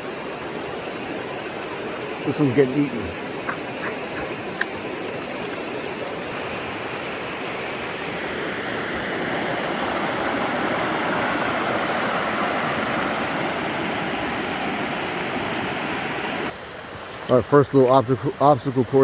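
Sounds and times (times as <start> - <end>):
river rushing over rocks: 0.0 - 17.1.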